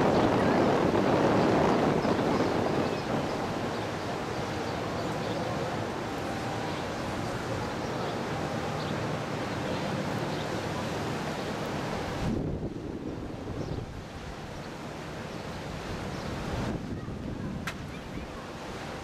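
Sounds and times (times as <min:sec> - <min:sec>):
moving water: 0:00.0 - 0:19.0
wind: 0:00.0 - 0:19.0.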